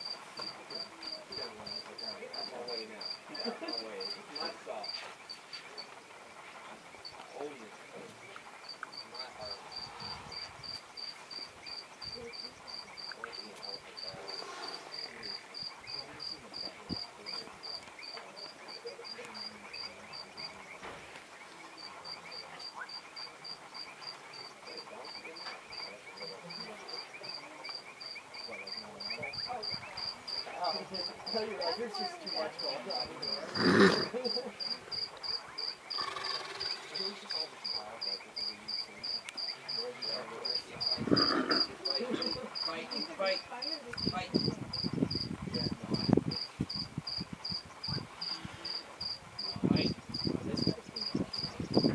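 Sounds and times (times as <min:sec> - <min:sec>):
cricket chirping: 0:00.0 - 0:51.9
faint murmuring voices: 0:00.0 - 0:51.9.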